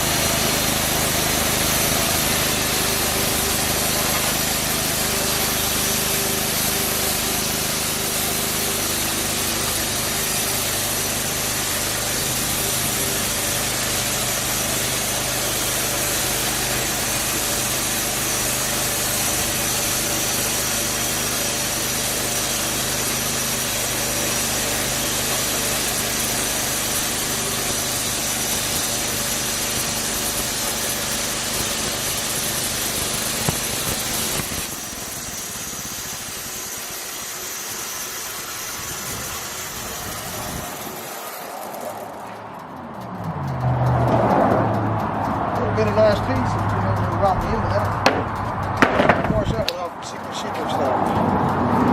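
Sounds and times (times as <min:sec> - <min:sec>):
band saw cutting log hissing: 0:00.0 - 0:42.4
sawmill engine running: 0:00.0 - 0:51.9.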